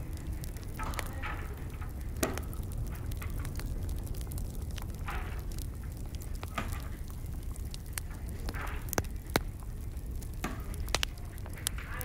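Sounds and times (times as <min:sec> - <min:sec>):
crackles of wood fire: 0:00.0 - 0:12.0
low rumble of wood fires: 0:00.0 - 0:12.0.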